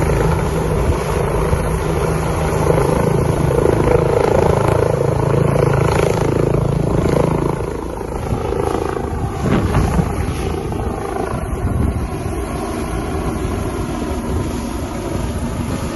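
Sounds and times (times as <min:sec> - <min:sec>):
helicopter rotor and engine: 0:00.0 - 0:15.9.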